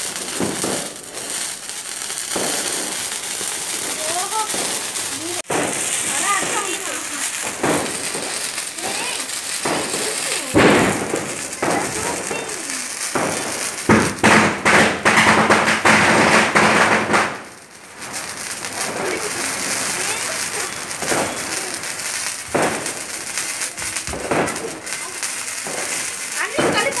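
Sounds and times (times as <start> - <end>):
firecracker bangs: 0.0 - 27.0
loud hissing: 0.0 - 27.0
sparklers fizzing and crackling: 0.0 - 27.0.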